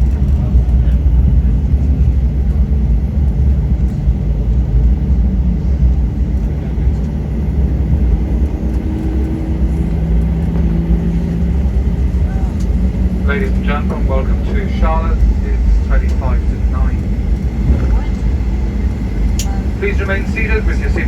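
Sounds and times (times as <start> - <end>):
faint engine hum: 0.0 - 21.0
jet engine cabin rumble: 0.0 - 21.0.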